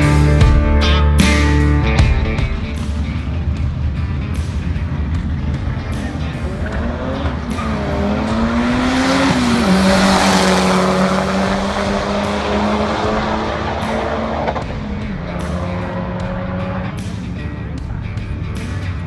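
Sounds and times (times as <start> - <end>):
car engine running hard: 2.5 - 19.0.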